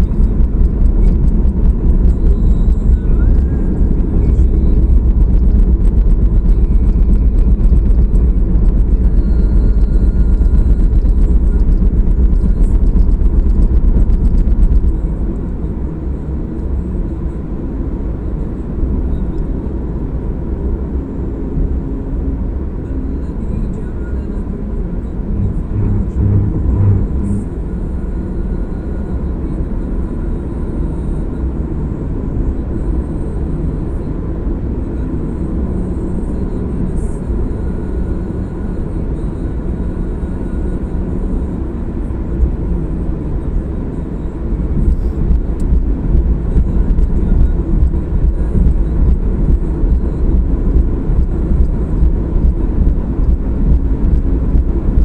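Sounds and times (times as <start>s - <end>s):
car tyre and engine drone: 0.0s - 55.0s.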